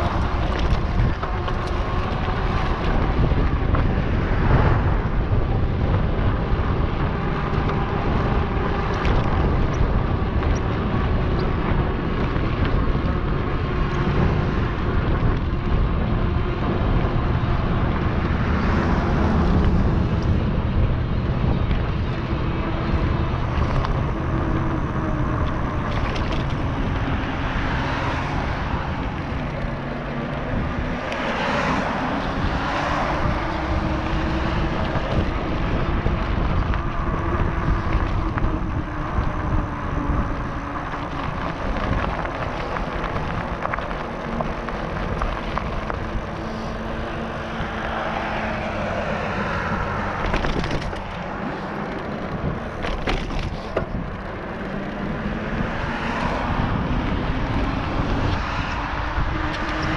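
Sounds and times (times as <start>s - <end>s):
wind and tyre noise: 0.0s - 59.9s.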